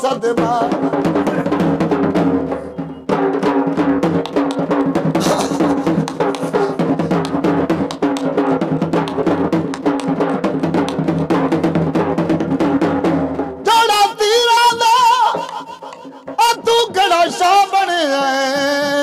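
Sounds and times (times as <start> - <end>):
fast dhol drumming: 0.0 - 19.0.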